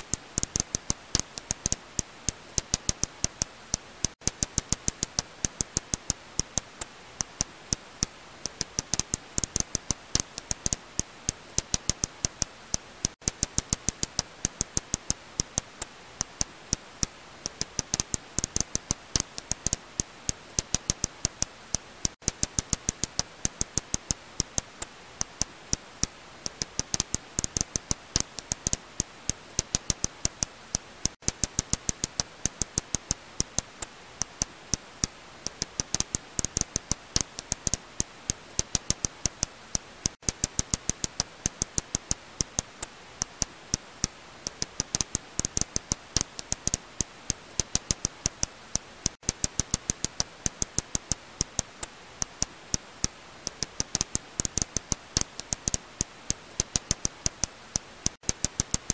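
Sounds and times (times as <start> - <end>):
bat echolocation clicks: 0.1 - 58.9.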